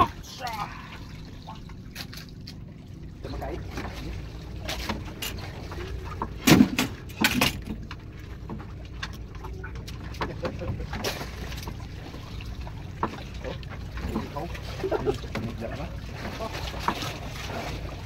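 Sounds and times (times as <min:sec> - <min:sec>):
steady low rumble: 0:00.0 - 0:18.0
water lapping against boat hull: 0:00.0 - 0:18.0.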